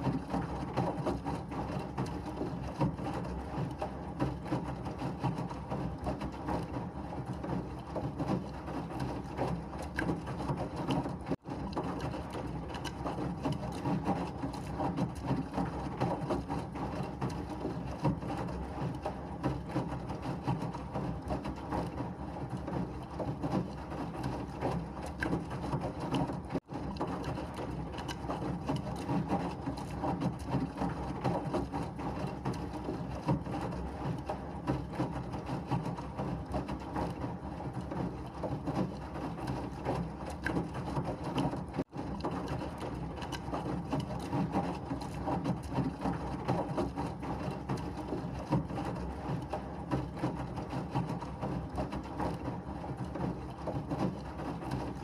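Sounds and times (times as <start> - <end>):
washing machine drum churning: 0.0 - 55.0.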